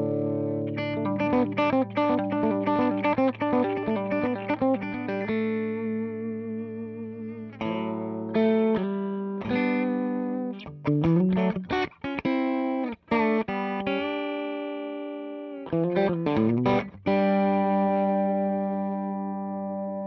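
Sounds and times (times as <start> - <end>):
electric guitar chords: 0.0 - 20.0.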